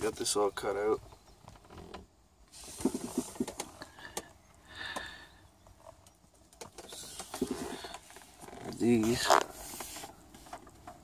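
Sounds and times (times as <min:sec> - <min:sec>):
short creaks: 0:01.1 - 0:10.7.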